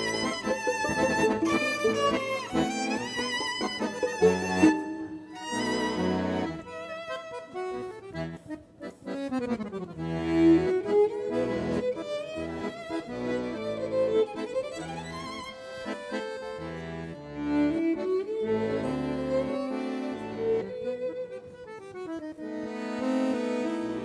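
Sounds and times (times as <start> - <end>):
button accordion: 0.0 - 24.0
violin: 0.0 - 24.0.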